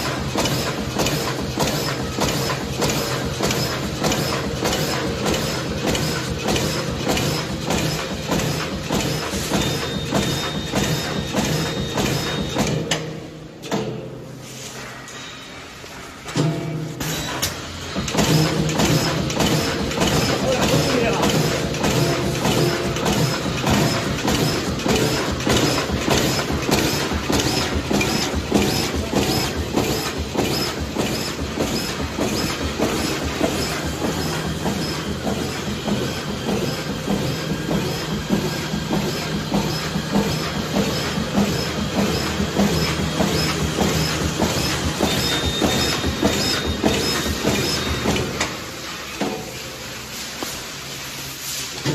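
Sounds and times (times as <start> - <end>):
bag-making machine clattering: 0.0 - 14.2, 16.3 - 51.9.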